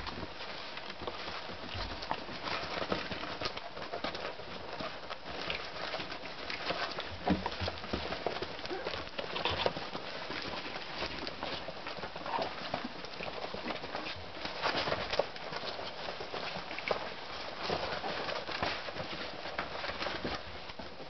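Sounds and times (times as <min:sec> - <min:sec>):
puppy paws pattering: 0:00.0 - 0:21.0.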